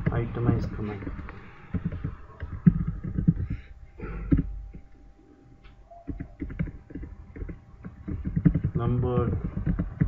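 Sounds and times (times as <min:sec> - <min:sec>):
computer keyboard typing: 0:00.0 - 0:04.9, 0:05.9 - 0:10.0.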